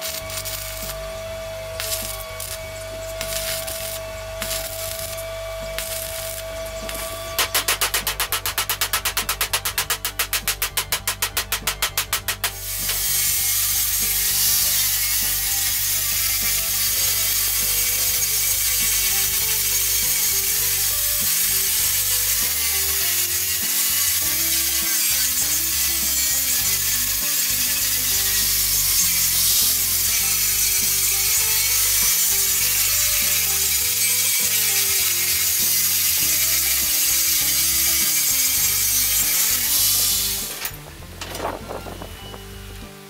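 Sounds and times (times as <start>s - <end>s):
angle grinder grinding steel: 0.0s - 43.0s.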